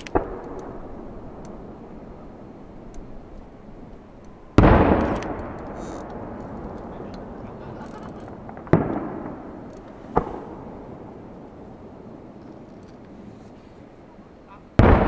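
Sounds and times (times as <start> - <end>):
echoing rumble: 0.0 - 12.4
fireworks bangs: 0.0 - 13.9, 14.6 - 15.0.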